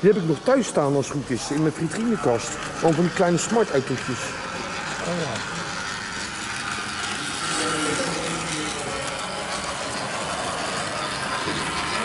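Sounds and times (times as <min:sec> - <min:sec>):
faint voices talking: 0:00.0 - 0:12.0
hubbub of large hall: 0:00.0 - 0:12.0.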